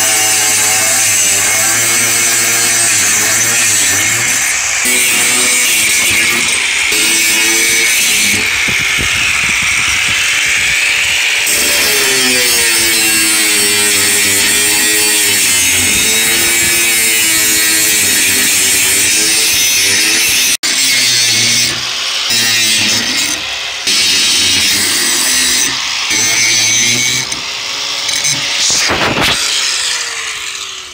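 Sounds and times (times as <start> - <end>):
angle grinder cutting steel: 0.0 - 30.9.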